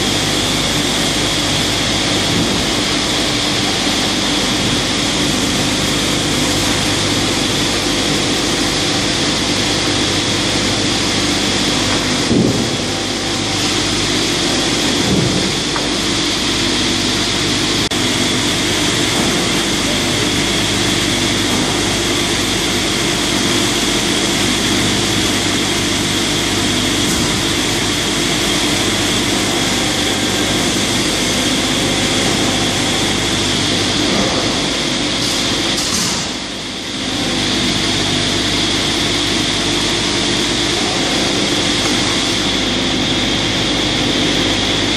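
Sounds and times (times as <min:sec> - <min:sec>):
sawmill machinery droning: 0:00.0 - 0:44.9.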